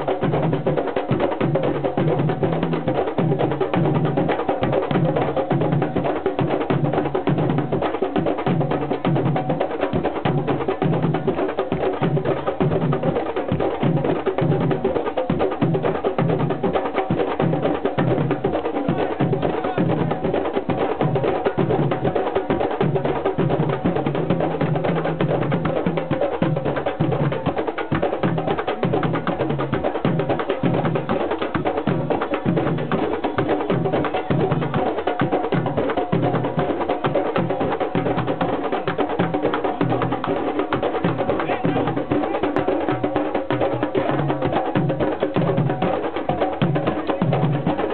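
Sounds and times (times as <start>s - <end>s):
drums and percussion rhythm: 0.0s - 47.9s.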